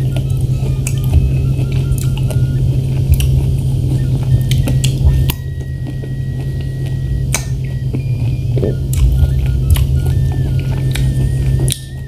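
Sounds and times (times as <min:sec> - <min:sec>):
steady low hum: 0:00.0 - 0:12.0
wet chewing with mouth clicks: 0:00.0 - 0:12.0.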